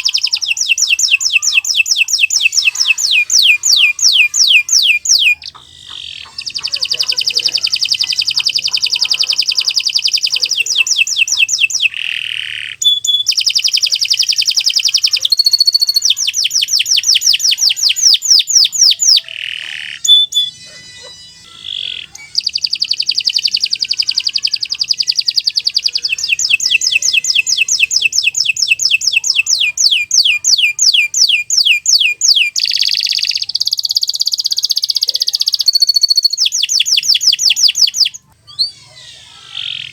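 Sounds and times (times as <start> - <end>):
canary singing rolled trills: 0.0 - 39.9.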